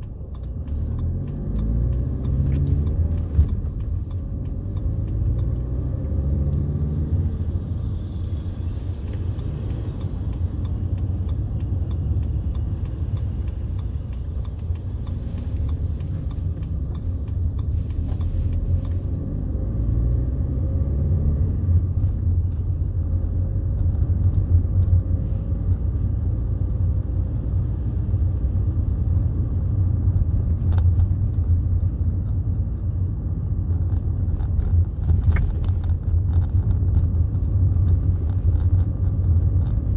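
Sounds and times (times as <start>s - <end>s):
car engine rumbling: 0.0s - 39.9s
road noise: 0.0s - 39.9s.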